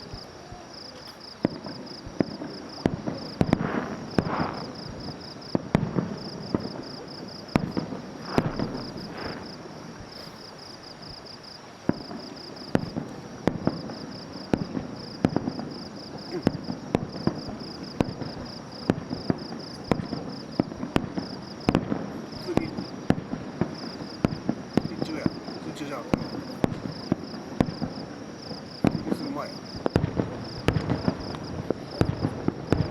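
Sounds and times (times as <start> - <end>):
fireworks bursting: 0.0 - 32.9
insect chirping: 0.0 - 32.9.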